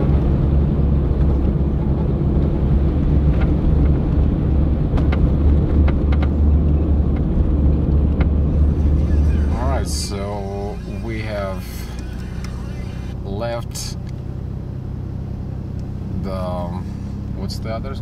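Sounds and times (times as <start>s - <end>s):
engine and tyres droning: 0.0s - 18.0s.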